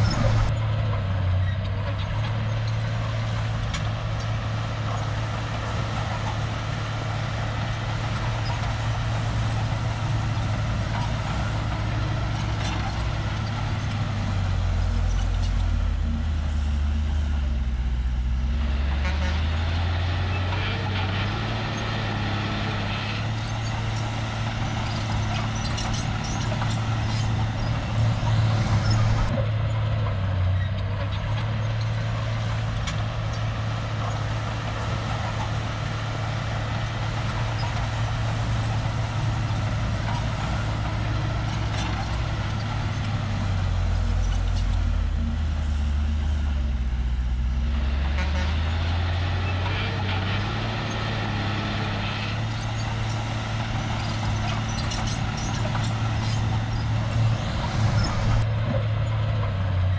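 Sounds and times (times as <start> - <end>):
bulldozer diesel engine: 0.0 - 59.9.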